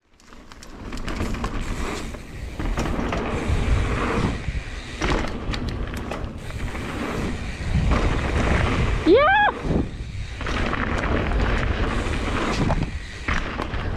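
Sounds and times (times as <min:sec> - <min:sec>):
bike rattling and scraping: 0:00.0 - 0:13.9
wind buffeting microphone: 0:01.2 - 0:13.9.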